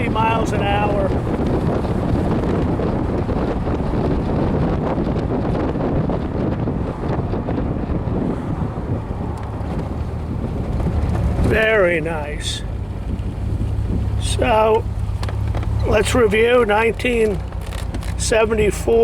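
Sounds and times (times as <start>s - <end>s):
car engine running: 0.0s - 19.0s
road noise: 0.0s - 19.0s
wind rush on microphone: 0.0s - 19.0s.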